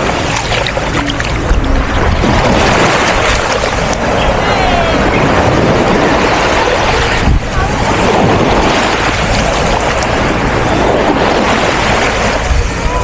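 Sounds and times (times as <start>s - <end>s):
sea surf washing in: 0.0s - 13.0s
wind buffeting the microphone: 0.0s - 13.0s.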